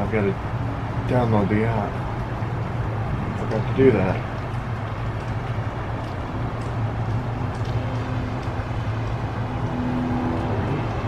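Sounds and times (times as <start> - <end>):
low engine hum: 0.0 - 11.0
rain: 0.0 - 11.0.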